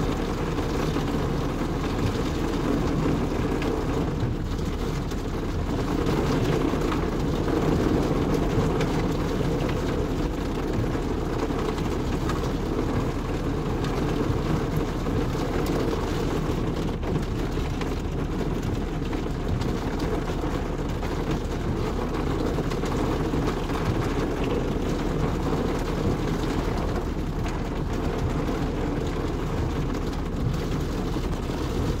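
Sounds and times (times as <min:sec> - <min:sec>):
rain on car roof: 0:00.0 - 0:32.0.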